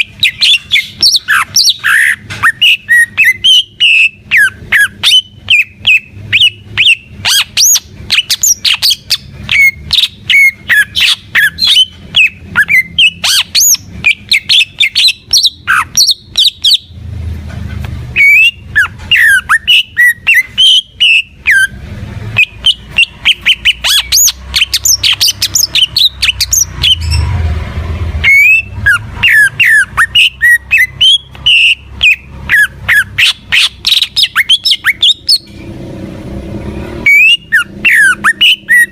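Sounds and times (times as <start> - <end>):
bird singing whistled notes: 0.0 - 17.0, 18.2 - 21.8, 22.4 - 27.3, 28.2 - 35.5, 37.0 - 38.9.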